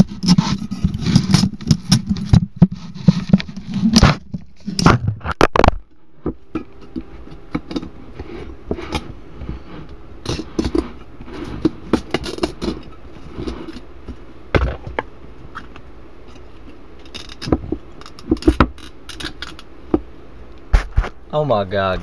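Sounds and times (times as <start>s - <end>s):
speaker cone scraping and cracking: 0.0s - 19.7s.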